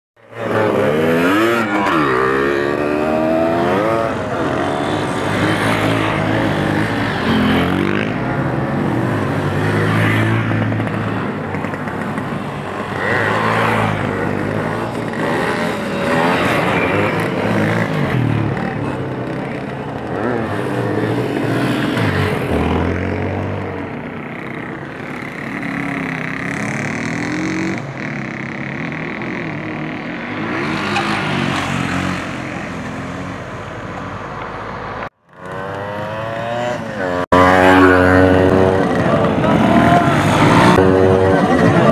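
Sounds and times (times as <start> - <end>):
motorcycle engines revving: 0.2 - 41.9.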